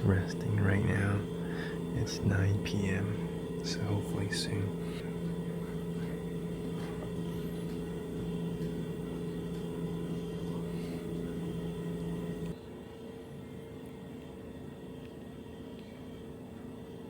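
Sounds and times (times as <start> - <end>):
low and high tone hum: 0.0 - 17.0.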